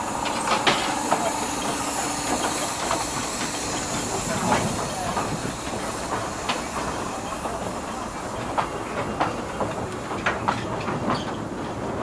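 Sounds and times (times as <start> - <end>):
train carriages rumbling: 0.0 - 12.0
wheels clicking over rail joints: 0.0 - 12.0.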